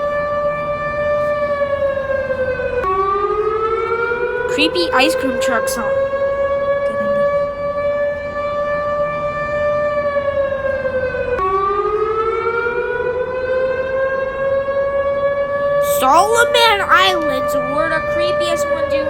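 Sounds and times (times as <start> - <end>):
warning siren: 0.0 - 19.0.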